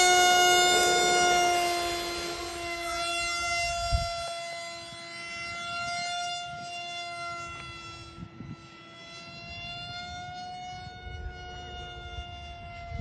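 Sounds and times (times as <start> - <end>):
model jet motor whine: 0.0 - 13.0.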